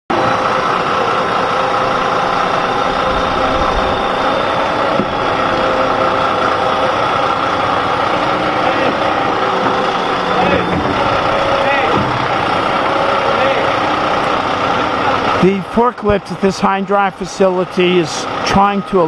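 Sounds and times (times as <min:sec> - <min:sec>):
forklift engine running: 0:00.1 - 0:19.0.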